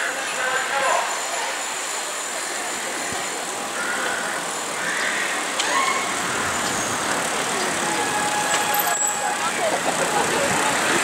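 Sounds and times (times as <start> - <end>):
group of bicycles riding: 0.0 - 11.0.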